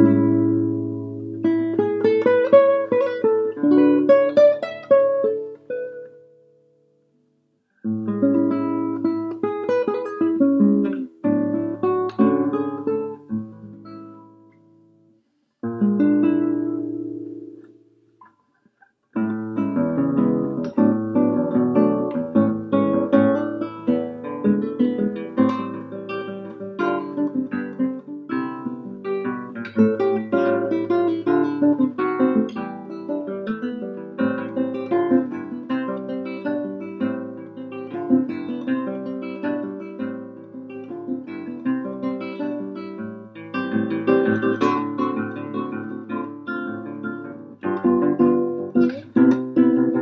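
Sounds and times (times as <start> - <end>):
classical guitar fingerpicking: 0.0 - 50.0.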